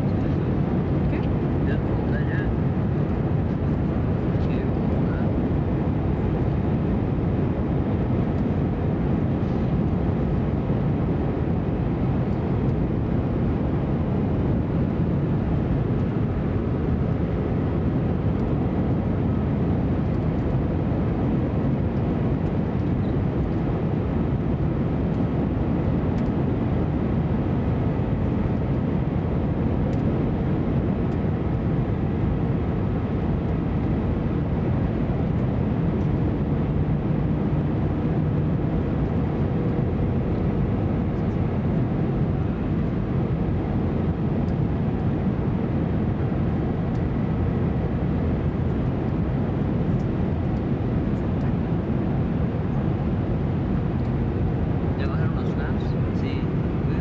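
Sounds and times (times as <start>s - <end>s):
airplane cabin rumble: 0.0s - 57.0s
faint steady hum: 0.0s - 57.0s.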